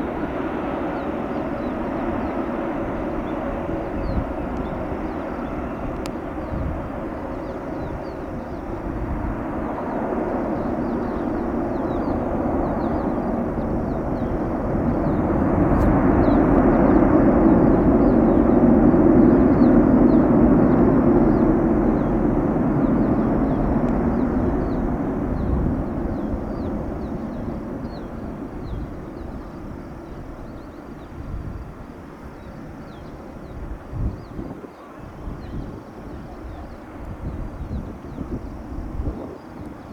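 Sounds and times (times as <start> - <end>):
jet engines droning: 0.0 - 39.9
wind rumble on microphone: 0.0 - 39.9.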